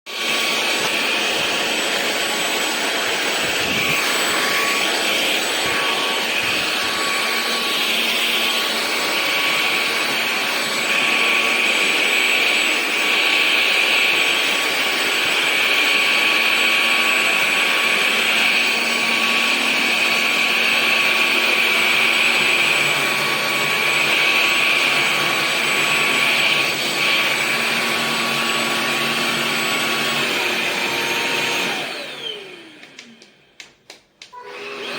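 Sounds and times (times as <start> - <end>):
stick vacuum cleaner running: 0.1 - 34.9.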